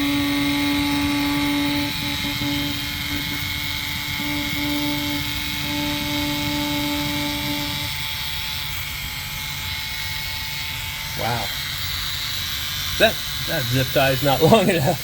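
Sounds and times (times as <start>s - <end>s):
cordless screwdriver motor whine: 0.0s - 15.0s.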